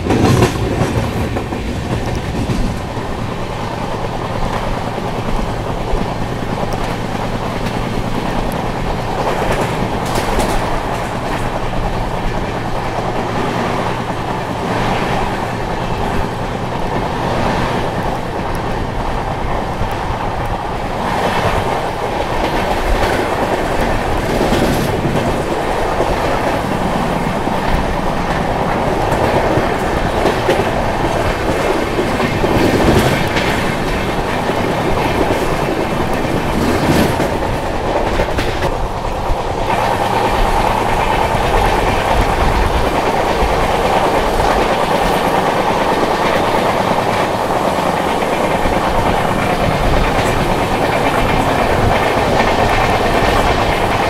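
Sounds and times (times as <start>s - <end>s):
train wheels rumbling on rails: 0.0s - 54.0s
wheels clacking over rail joints: 0.0s - 54.0s.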